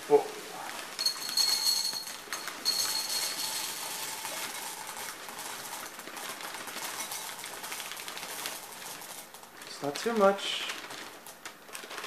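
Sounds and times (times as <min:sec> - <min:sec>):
cereal pouring into ceramic bowl: 0:00.5 - 0:12.0.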